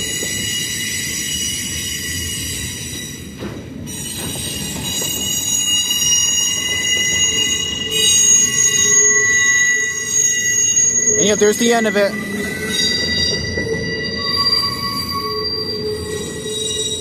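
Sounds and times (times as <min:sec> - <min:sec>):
freight train rumble: 0:00.0 - 0:17.0
train wheels squealing: 0:00.0 - 0:17.0.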